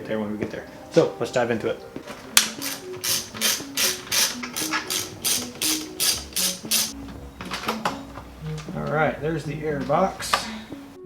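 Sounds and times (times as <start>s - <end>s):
background music with crisp beat: 0.0s - 11.0s.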